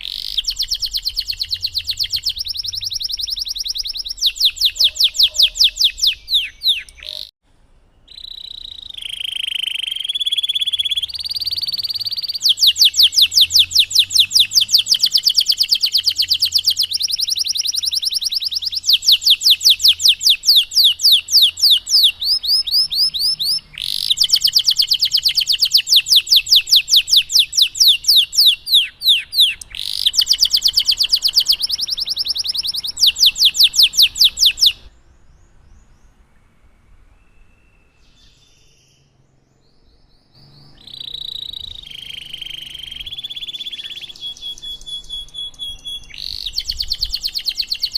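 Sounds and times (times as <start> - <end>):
canary singing trills: 0.0 - 7.3, 8.0 - 35.7, 40.0 - 47.9.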